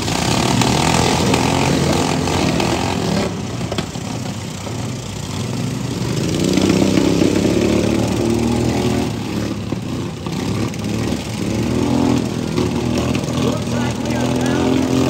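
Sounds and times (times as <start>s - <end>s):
lawn mower engines revving: 0.0s - 15.0s.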